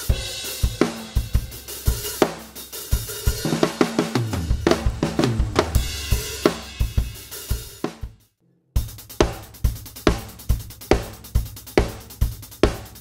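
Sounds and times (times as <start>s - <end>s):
hi-hat pattern: 0.0s - 4.5s, 5.6s - 13.0s
drum kit groove: 0.0s - 13.0s.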